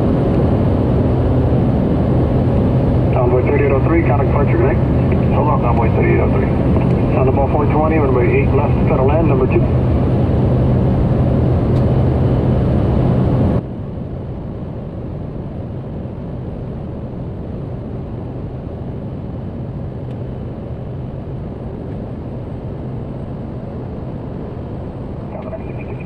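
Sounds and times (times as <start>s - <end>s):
hissy layer with low hum: 0.0s - 26.0s
turboprop engine drone in cockpit: 0.0s - 26.0s.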